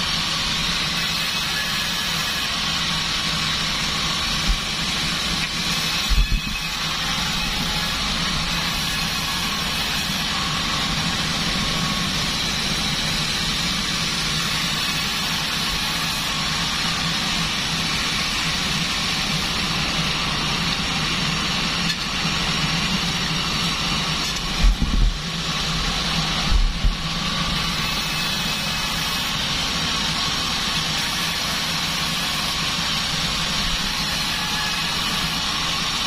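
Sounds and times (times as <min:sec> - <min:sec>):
band saw humming and hissing: 0:00.0 - 0:36.0.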